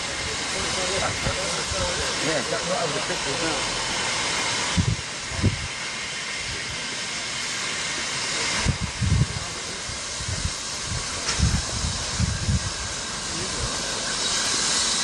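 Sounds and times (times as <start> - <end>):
train rushing and hissing: 0.0 - 15.0.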